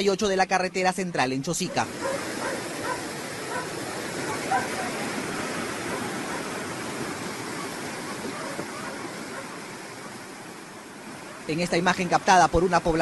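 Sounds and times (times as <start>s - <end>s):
rushing water and mud: 0.0s - 13.0s.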